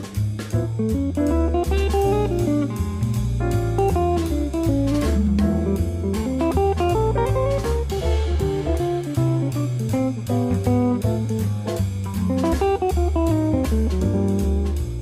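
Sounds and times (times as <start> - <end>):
bass line: 0.0 - 15.0
plucked guitar melody: 0.0 - 15.0
steady beat: 0.0 - 15.0.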